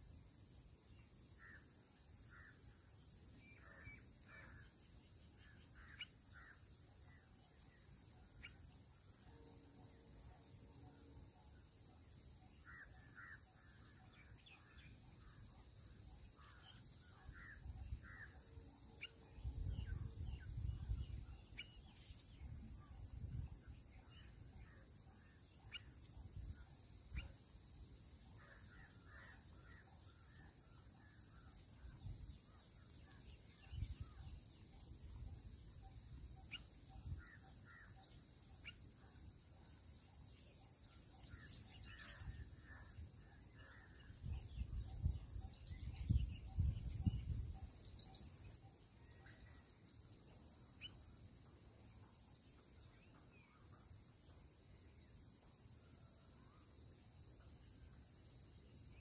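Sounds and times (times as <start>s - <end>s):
soft bird chirps: 0.0s - 59.0s.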